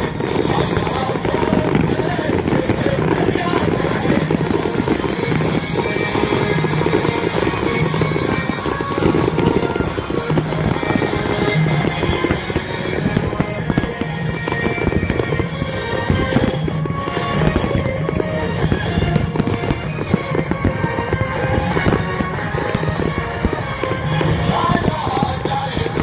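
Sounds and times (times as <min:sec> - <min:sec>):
fireworks bangs and crackles: 0:00.0 - 0:26.0
music playing: 0:00.0 - 0:26.0.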